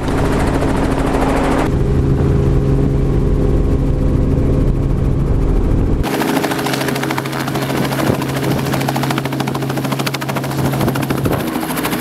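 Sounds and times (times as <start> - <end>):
helicopter engine drone: 0.0 - 12.0
helicopter rotor chopping: 0.0 - 12.0.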